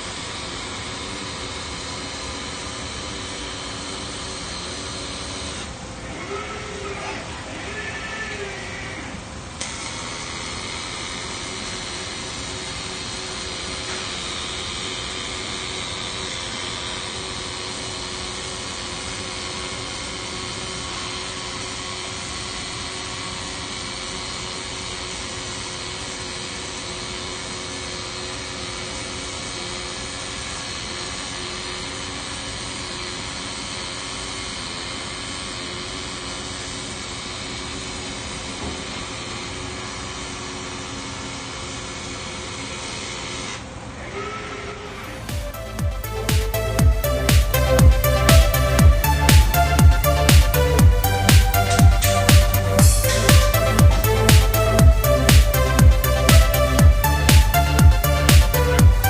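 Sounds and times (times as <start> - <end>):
factory machinery and ventilation drone: 0.0 - 59.0.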